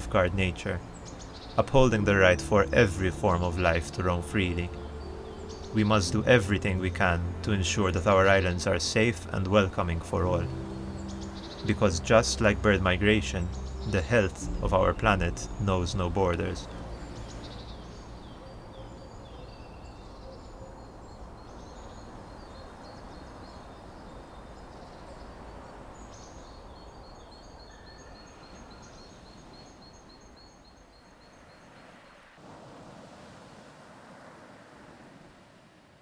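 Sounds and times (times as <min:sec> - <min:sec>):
small birds singing: 0:00.0 - 0:32.4
outdoor background hiss: 0:00.0 - 0:36.0.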